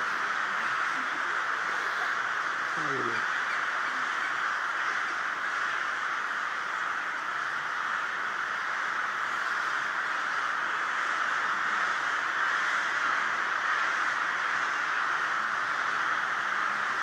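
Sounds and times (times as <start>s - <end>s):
flock of crows cawing: 0.0s - 17.0s.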